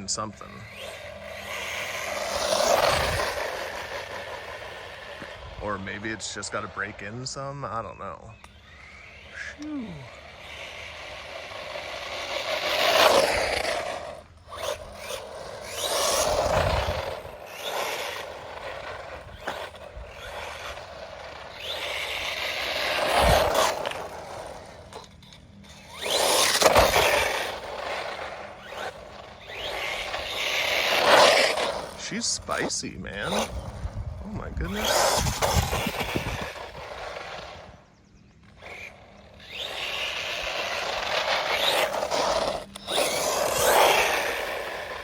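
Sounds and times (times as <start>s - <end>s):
rc car driving past: 0.0s - 45.0s.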